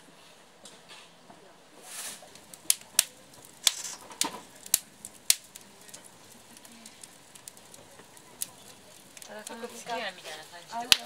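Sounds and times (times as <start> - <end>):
campfire crackling: 1.7 - 11.0.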